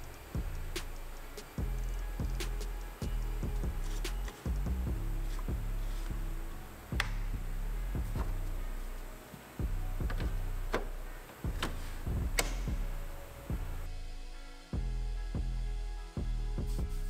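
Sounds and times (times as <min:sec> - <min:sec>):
held bass notes: 0:00.0 - 0:17.0.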